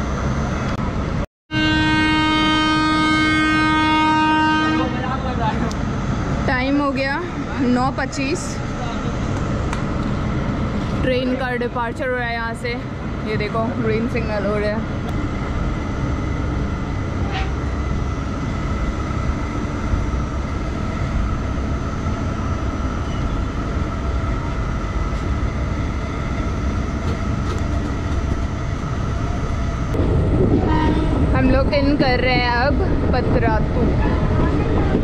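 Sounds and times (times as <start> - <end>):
train coaches rolling: 2.8 - 35.0.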